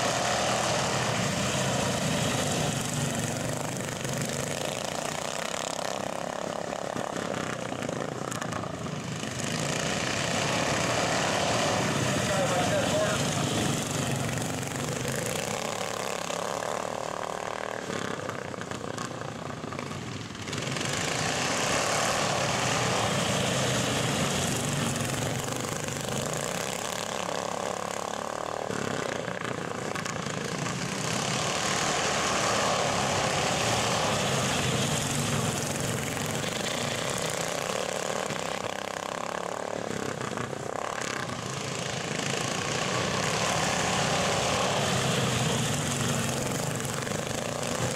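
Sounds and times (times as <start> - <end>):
small racing engines droning: 0.0 - 47.9.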